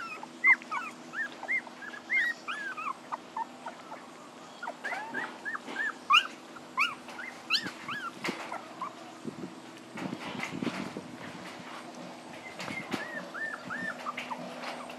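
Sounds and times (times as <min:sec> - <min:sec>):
puppies whimpering: 0:00.0 - 0:09.7, 0:12.2 - 0:14.9.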